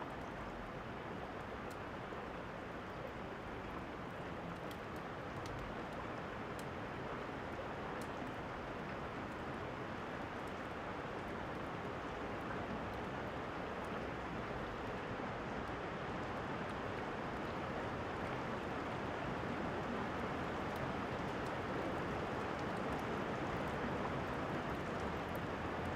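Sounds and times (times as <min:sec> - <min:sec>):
faint fire crackles: 0:00.0 - 0:25.9
steady rainfall: 0:00.0 - 0:25.9.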